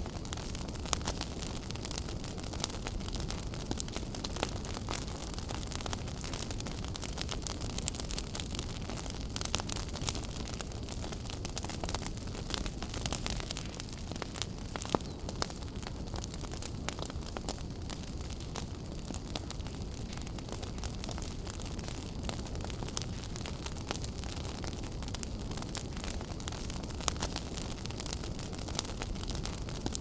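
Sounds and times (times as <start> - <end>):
fire popping: 0.0 - 30.0
wood fire crackling: 0.0 - 30.0.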